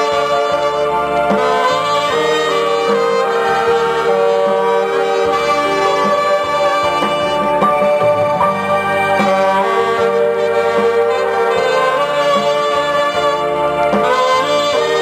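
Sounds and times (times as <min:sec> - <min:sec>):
band accompaniment: 0:00.0 - 0:15.0
bass line: 0:00.0 - 0:15.0
saxophone melody: 0:00.0 - 0:15.0.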